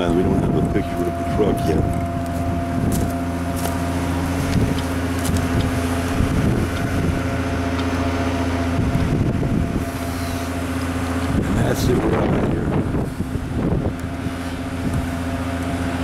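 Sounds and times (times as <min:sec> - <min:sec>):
truck engine running steadily: 0:00.0 - 0:16.0
wind buffeting microphone: 0:00.0 - 0:16.0.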